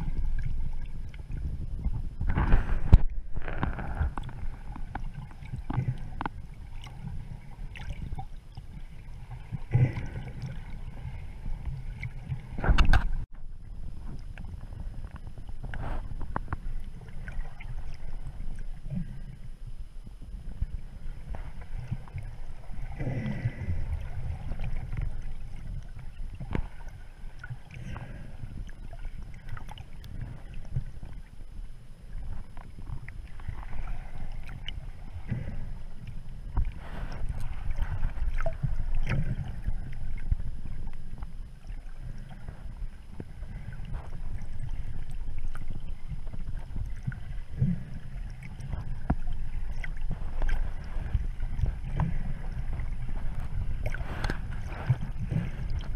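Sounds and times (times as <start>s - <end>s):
muffled underwater rumble: 0.0s - 55.9s.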